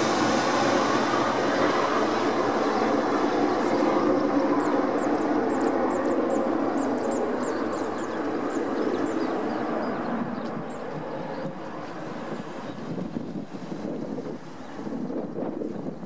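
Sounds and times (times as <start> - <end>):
jet engines roaring overhead: 0.0 - 16.0.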